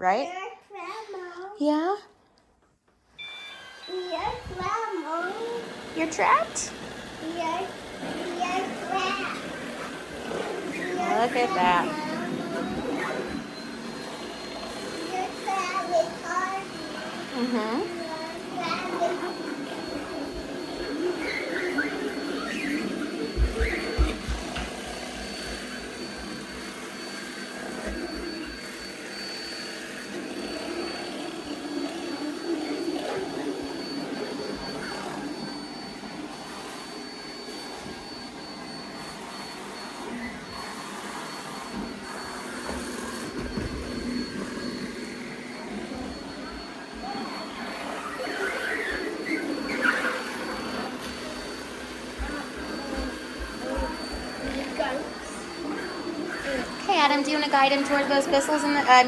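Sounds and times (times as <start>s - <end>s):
robot vacuum high whine: 3.2s - 59.0s.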